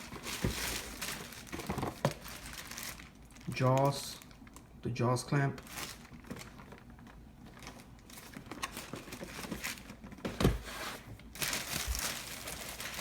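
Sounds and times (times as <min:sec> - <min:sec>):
packaging crinkling and rustling: 0:00.0 - 0:04.7, 0:05.5 - 0:13.0.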